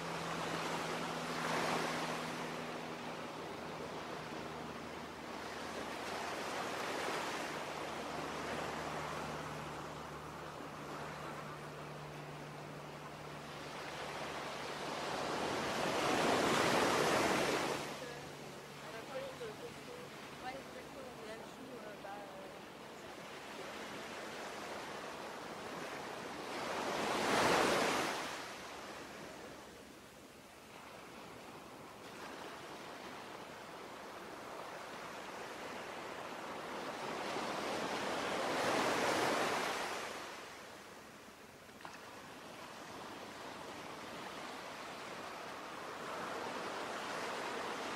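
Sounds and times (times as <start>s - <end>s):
sea waves washing in: 0.0s - 47.9s.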